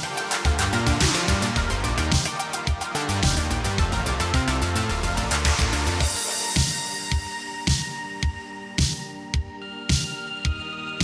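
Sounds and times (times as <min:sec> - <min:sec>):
fast beat music with bass: 0:00.0 - 0:11.0.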